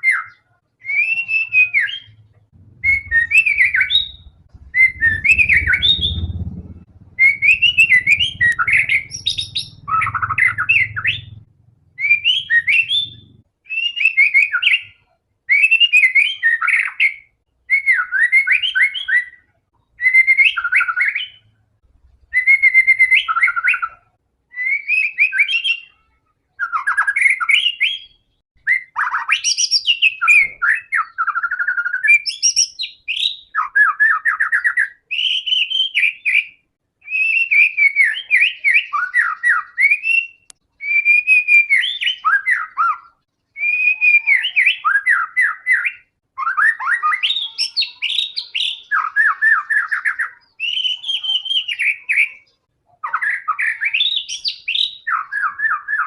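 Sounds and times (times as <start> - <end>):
bird singing whistled phrases: 0.0 - 11.4, 12.0 - 19.4, 20.0 - 21.5, 22.3 - 25.9, 26.6 - 56.0.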